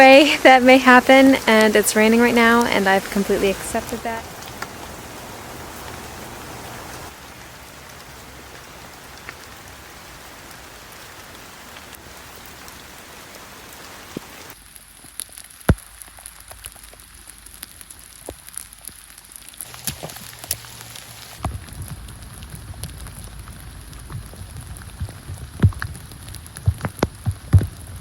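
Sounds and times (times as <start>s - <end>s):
raindrops tapping: 0.0s - 28.0s
steady rain falling: 0.0s - 28.0s.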